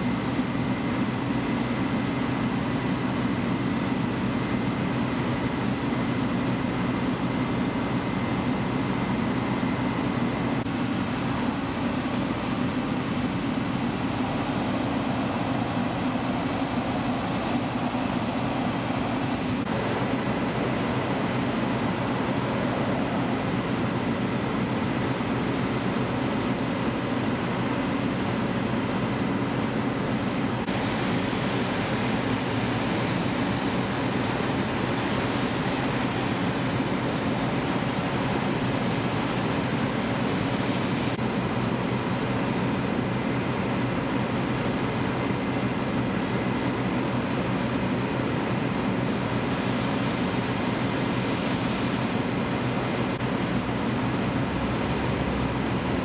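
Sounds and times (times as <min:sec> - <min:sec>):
diesel engines droning: 0:00.1 - 0:46.1, 0:52.0 - 0:56.0.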